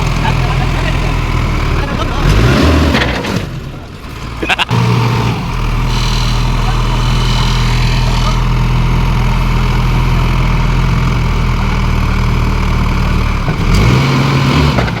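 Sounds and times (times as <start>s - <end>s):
heavy drill engine running: 0.0s - 15.0s.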